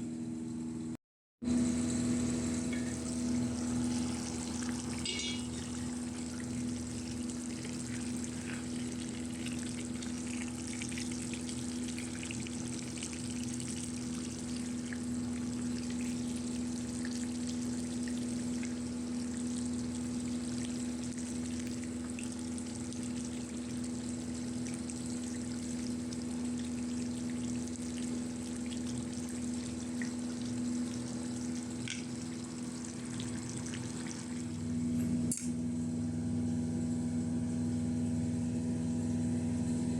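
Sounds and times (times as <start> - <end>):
steady low hum: 0.0 - 39.9
pot simmering and bubbling: 1.7 - 35.3.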